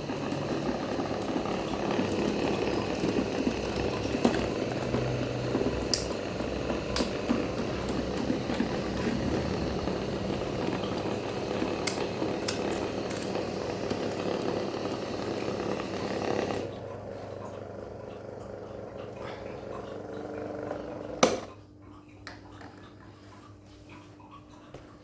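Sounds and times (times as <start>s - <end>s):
electric fan whirring: 0.0s - 21.9s.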